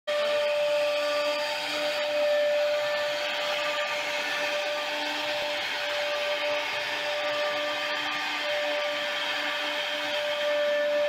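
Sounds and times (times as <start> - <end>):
router spindle whining: 0.1 - 11.0.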